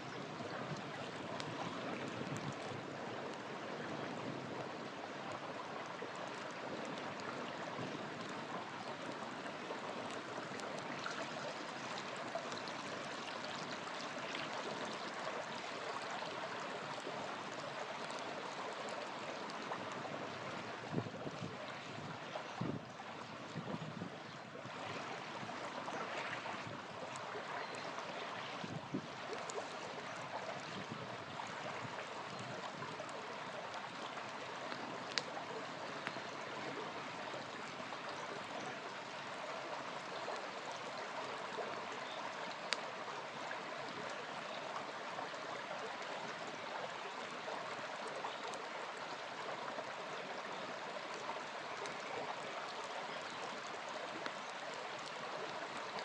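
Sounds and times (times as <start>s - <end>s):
river flowing: 0.0s - 56.0s
campfire crackling: 0.1s - 23.7s, 24.6s - 56.0s.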